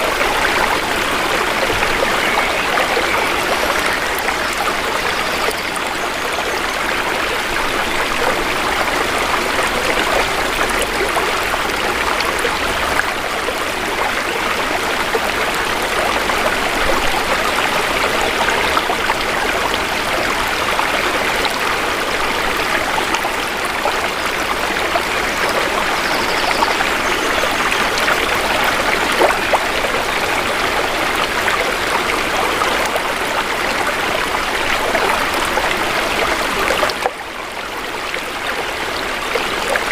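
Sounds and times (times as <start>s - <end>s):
shallow river water flowing: 0.0s - 39.9s.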